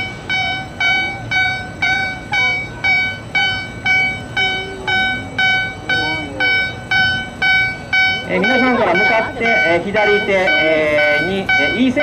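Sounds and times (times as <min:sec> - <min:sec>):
pulsing warning alarm tone: 0:00.0 - 0:12.0.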